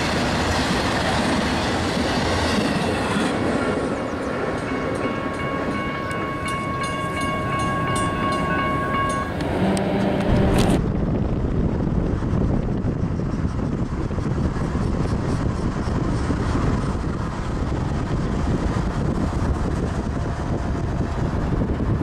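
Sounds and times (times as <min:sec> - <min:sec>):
freight train rumbling past: 0:00.0 - 0:22.0
wind buffeting microphone: 0:00.0 - 0:22.0.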